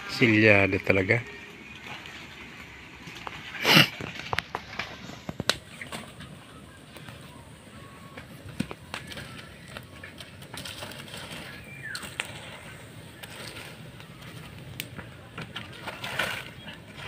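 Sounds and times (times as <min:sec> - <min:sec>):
firewood scraping into embers: 0:00.0 - 0:17.0
wood fire crackling and popping: 0:00.0 - 0:17.0.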